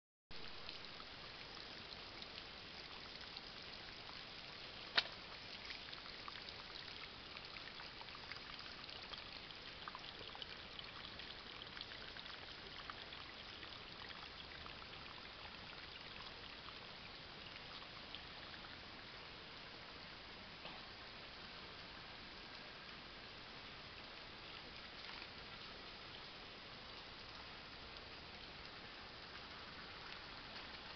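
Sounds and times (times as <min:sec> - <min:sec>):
creek trickling: 0:00.4 - 0:30.9
water drips: 0:00.4 - 0:30.9.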